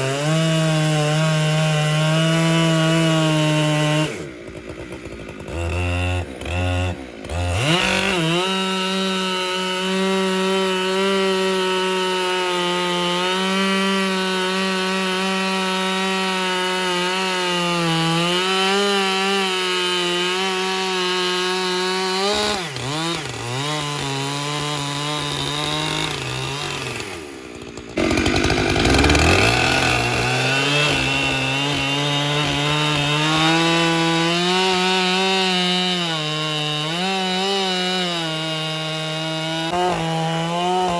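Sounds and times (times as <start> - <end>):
chainsaw ripping a log: 0.0 - 40.9.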